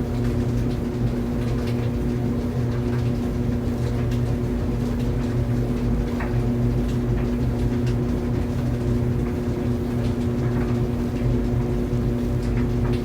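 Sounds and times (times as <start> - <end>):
laundry dryer running: 0.0 - 13.0.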